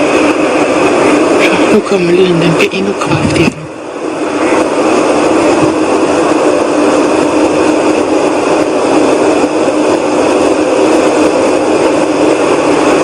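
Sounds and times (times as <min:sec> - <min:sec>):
low droning hum: 0:00.0 - 0:13.0
whooshing rumble from the sky: 0:00.0 - 0:13.0.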